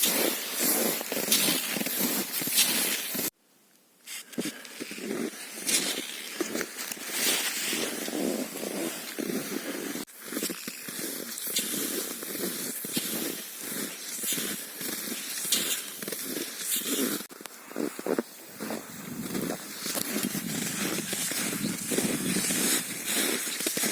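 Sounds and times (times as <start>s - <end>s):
skis crunching on frozen snow: 0.0s - 3.3s, 4.1s - 23.9s.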